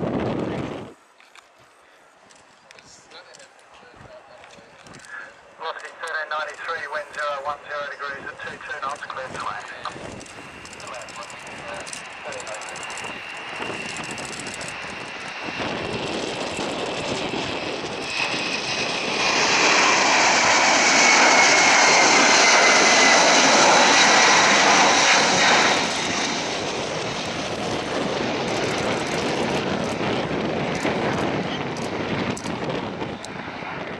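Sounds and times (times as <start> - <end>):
jet airliner taking off: 4.8 - 33.9.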